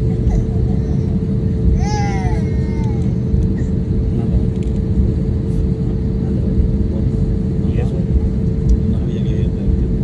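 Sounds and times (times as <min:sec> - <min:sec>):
constant hum: 0:00.0 - 0:10.0
vehicle cabin drone: 0:00.0 - 0:10.0.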